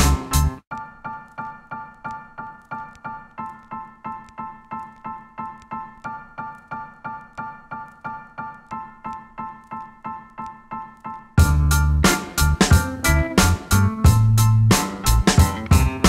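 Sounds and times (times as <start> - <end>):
keyboard repeating a chord: 0.0 - 16.0.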